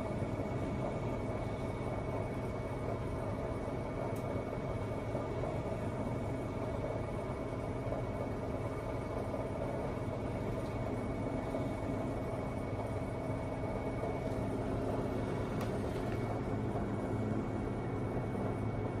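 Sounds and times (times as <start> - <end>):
background hum and rumble: 0.0 - 19.0.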